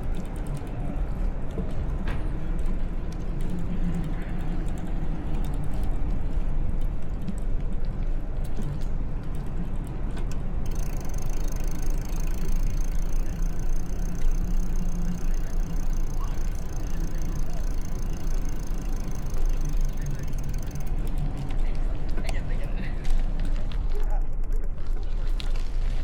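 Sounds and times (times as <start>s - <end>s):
small rattles and clicks: 0.0s - 25.8s
bicycle tyre and road noise: 0.0s - 26.0s.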